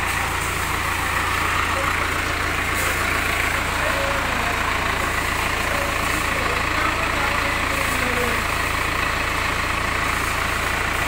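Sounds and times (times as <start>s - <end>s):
diesel engine running at low revs: 0.0s - 11.0s.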